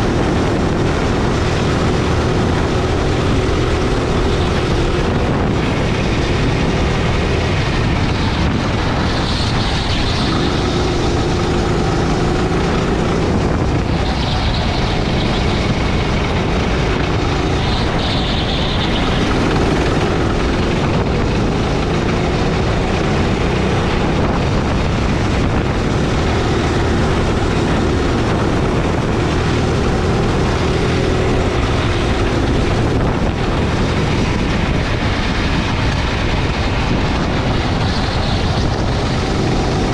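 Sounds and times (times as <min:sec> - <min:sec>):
go-kart engine revving: 0:00.0 - 0:39.9
wind noise on microphone: 0:00.0 - 0:39.9.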